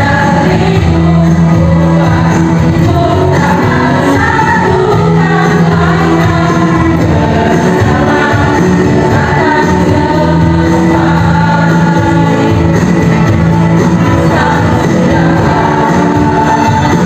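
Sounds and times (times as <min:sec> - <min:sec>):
women's choir singing: 0:00.0 - 0:17.0.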